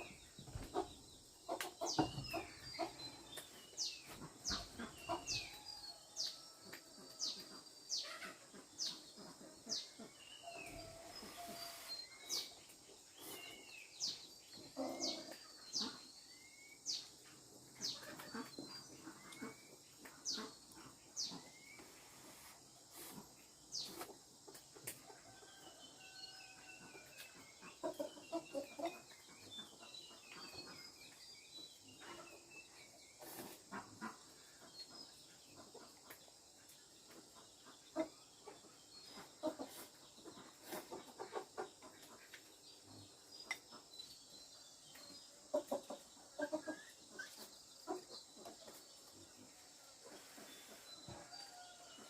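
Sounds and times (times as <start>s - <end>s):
chickens clucking: 0.0s - 16.1s, 16.9s - 31.2s, 31.8s - 43.9s, 44.9s - 52.0s.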